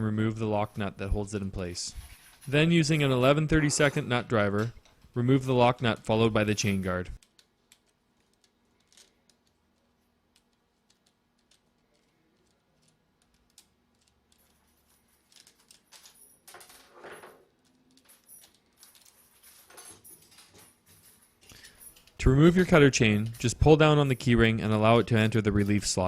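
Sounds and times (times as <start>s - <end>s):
small metal clicks and rattles: 1.6s - 26.0s.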